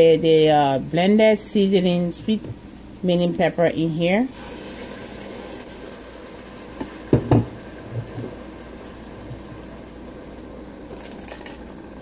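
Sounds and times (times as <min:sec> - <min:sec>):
sauce bubbling and sizzling in a pot: 0:00.0 - 0:12.0.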